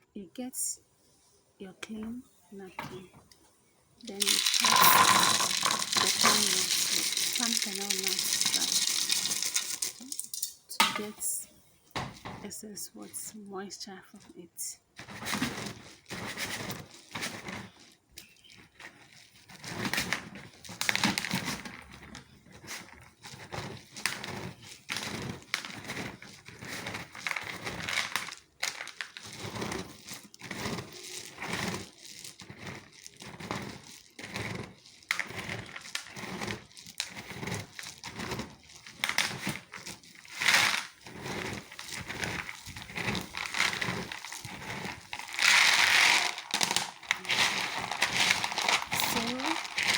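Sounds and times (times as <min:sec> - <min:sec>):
nuts clicking: 0:04.0 - 0:11.2, 0:15.8 - 0:49.9.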